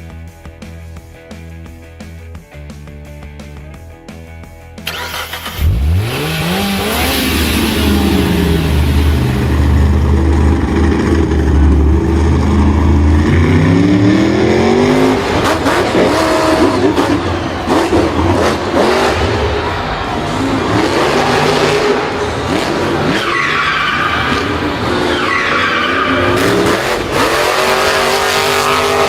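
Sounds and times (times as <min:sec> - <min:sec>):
vehicle engine revving: 0:04.8 - 0:29.0.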